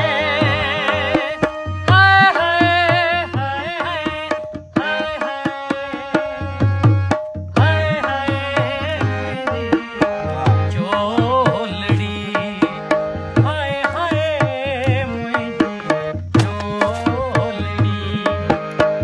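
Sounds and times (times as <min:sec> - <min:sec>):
hand drum beat: 0:00.0 - 0:19.0
harmonium holding notes: 0:00.0 - 0:19.0
man singing with vibrato: 0:00.0 - 0:19.0.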